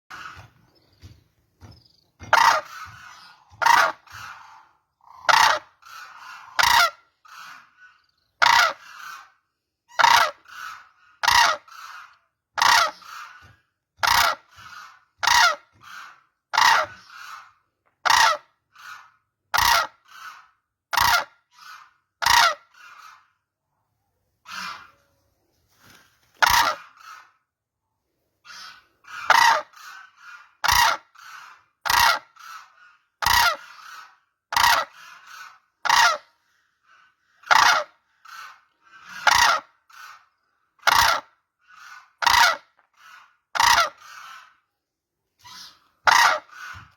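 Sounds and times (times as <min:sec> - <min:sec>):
cranes honking calls: 0:00.1 - 0:23.3, 0:24.4 - 0:25.0, 0:26.4 - 0:27.4, 0:28.4 - 0:44.7, 0:45.4 - 0:46.9.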